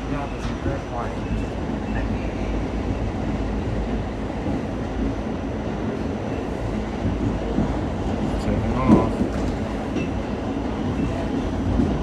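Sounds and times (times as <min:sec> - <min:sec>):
subway car wheels rumbling: 0:00.0 - 0:12.0.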